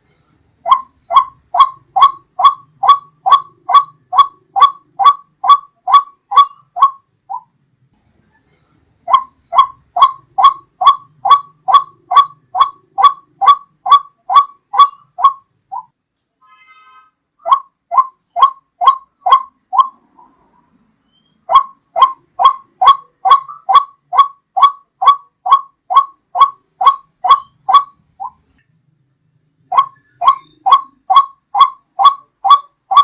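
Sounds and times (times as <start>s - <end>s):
repeated bird calls: 0.6s - 7.6s, 8.2s - 16.0s, 17.0s - 28.8s, 29.4s - 33.0s.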